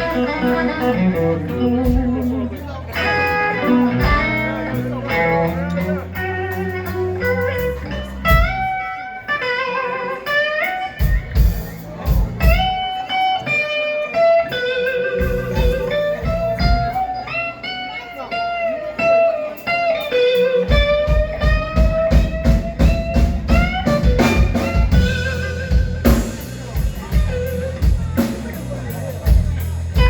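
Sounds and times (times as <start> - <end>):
electric guitar solo with bends: 0.0 - 11.2, 12.8 - 26.0
blues band playing: 0.0 - 30.0.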